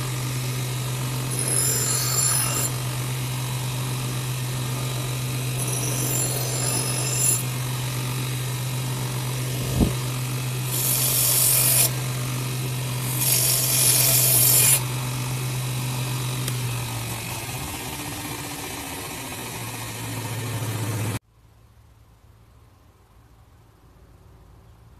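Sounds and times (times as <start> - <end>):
belt sander motor humming: 0.0 - 21.2
steel grinding on abrasive belt: 0.0 - 21.2.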